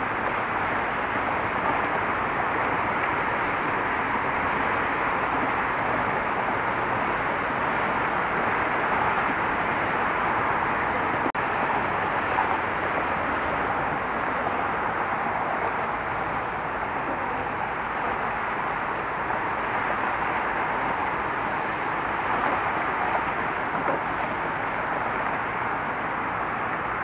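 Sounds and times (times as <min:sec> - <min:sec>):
road traffic on bridge: 0:00.0 - 0:27.0.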